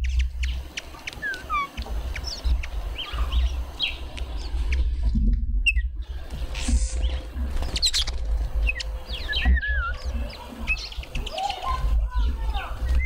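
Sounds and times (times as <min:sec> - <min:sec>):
birds chirping and whistling: 0:00.0 - 0:13.0
steady low rumble: 0:00.0 - 0:13.0.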